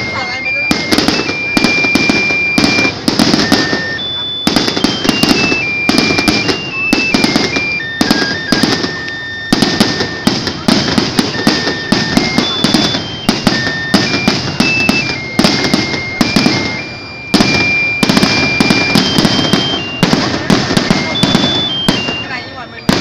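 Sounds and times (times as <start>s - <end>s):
firework shells bursting: 0.0s - 23.0s.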